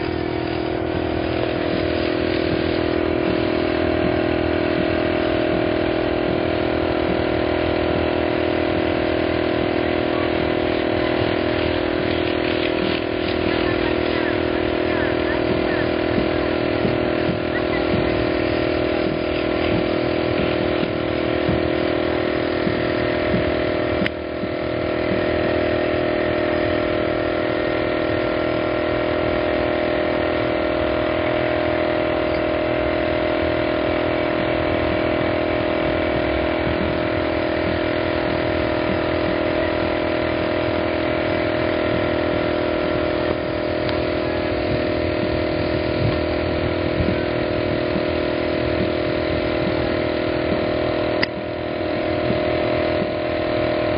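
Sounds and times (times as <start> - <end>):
air compressor humming: 0.0 - 53.9.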